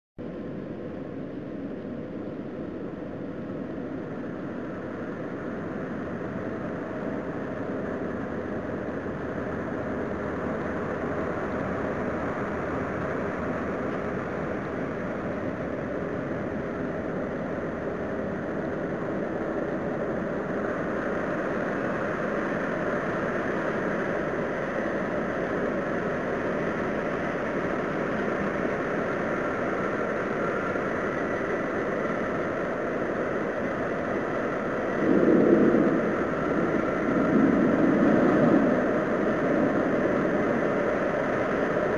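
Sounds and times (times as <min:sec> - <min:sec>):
low rumbling roar: 0:06.2 - 0:41.9.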